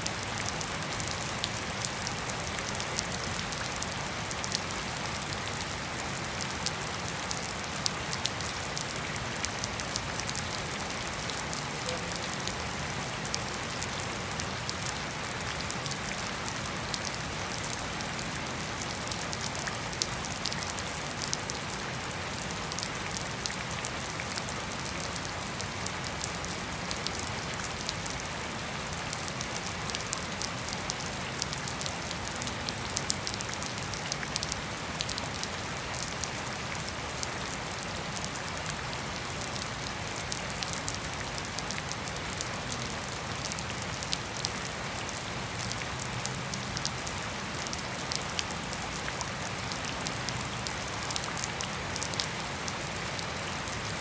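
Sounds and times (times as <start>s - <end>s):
rain falling on grass and pavement: 0.0s - 54.0s.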